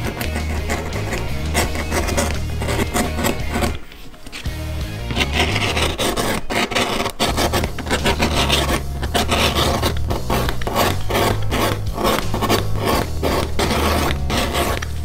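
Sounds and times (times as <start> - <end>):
blade scraping leather: 0.0 - 15.0.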